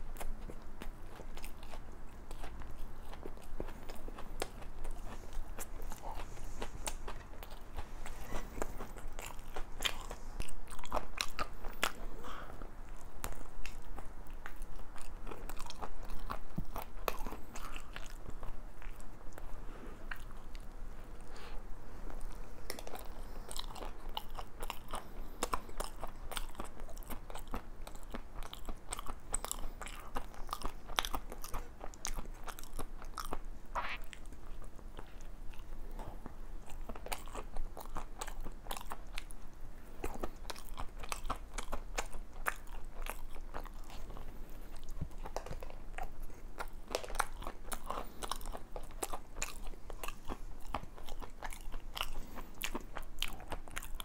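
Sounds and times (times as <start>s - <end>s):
crunchy chewing of doughnut: 0.0s - 54.0s.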